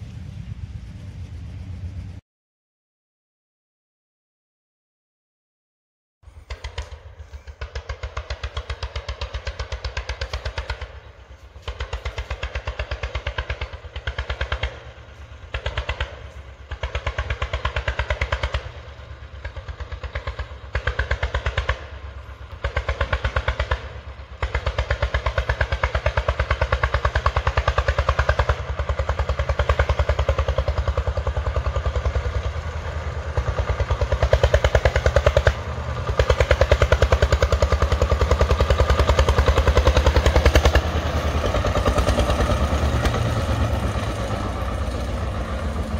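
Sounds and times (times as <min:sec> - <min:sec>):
tractor engine pulsing: 0:06.3 - 0:45.9.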